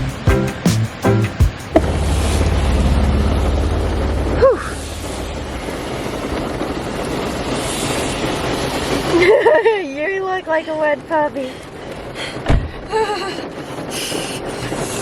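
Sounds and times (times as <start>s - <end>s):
steady rain: 0.0s - 15.0s
wind buffeting microphone: 1.6s - 15.0s.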